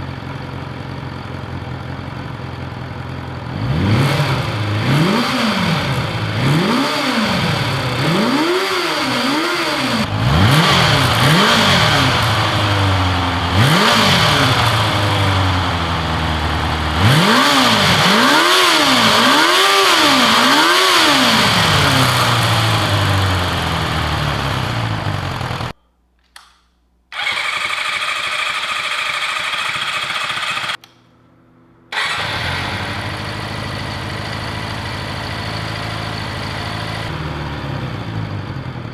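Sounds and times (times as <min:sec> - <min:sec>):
motorcycle engine revving and idling: 0:00.0 - 0:25.8, 0:27.2 - 0:30.8, 0:31.9 - 0:38.9.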